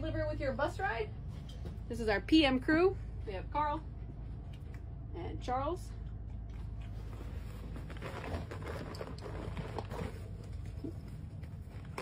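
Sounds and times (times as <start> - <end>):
low hum in bus cabin: 0.0 - 12.0.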